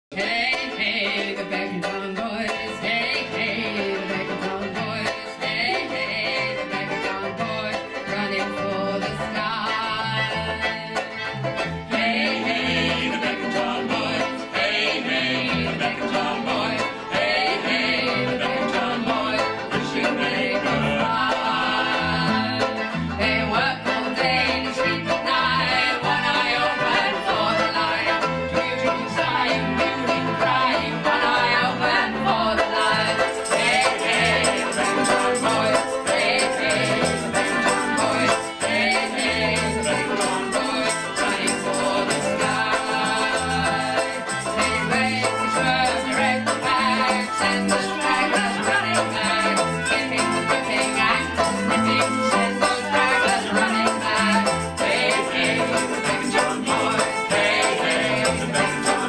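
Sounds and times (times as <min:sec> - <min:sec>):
woman singing: 0:00.1 - 0:11.2, 0:11.9 - 0:59.0
acoustic folk band playing: 0:00.1 - 0:59.0.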